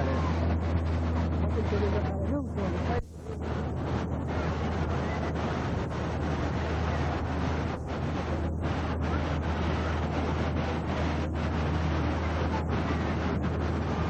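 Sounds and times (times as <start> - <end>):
low steady hum: 0.0 - 14.0
wind on microphone: 0.0 - 14.0.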